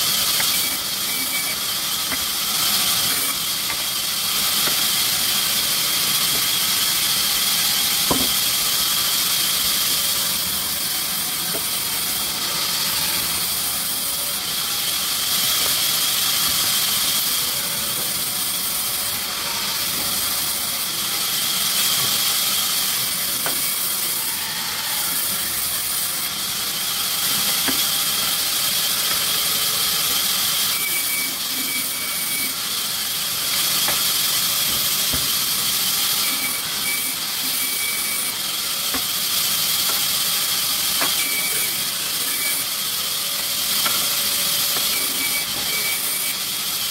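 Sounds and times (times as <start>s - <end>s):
sawmill machinery hissing: 0.0s - 46.9s.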